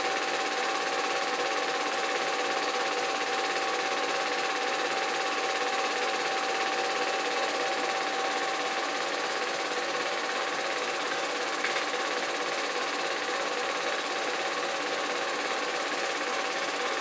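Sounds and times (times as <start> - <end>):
small machine whining and whirring: 0.0 - 17.0.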